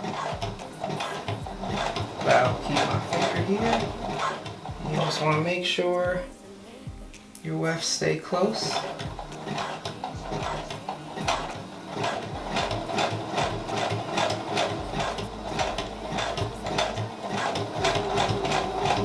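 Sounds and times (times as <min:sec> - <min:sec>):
needle punching through fabric: 0:00.0 - 0:05.4, 0:08.6 - 0:19.0
sewing machine stitching: 0:00.0 - 0:05.6, 0:08.5 - 0:19.0.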